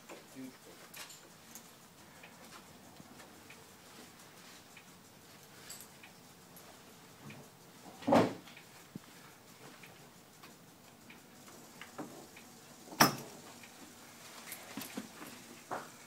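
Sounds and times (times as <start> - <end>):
halter and blanket clicks and rustles: 0.0 - 12.5, 13.2 - 16.0.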